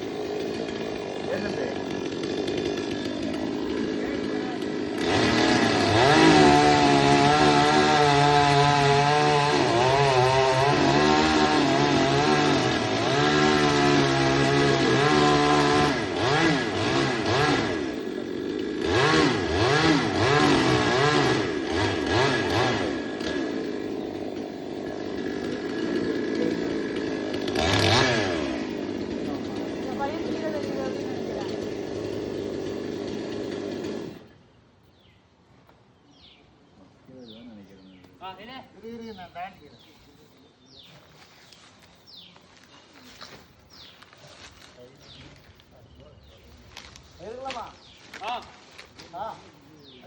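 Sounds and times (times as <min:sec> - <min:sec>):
chainsaw cutting wood: 0:00.0 - 0:34.4, 0:41.5 - 0:45.7, 0:46.3 - 0:50.0.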